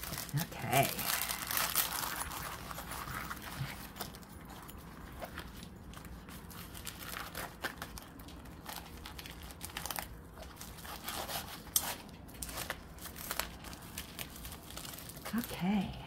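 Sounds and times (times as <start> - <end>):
plastic mailer crinkling: 0.0 - 15.6.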